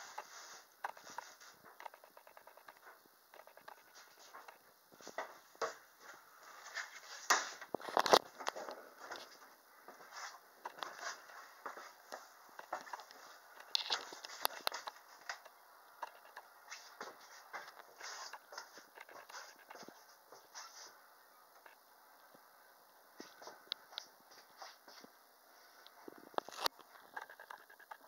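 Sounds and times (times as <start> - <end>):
footsteps: 0.0 - 21.0, 23.2 - 25.2.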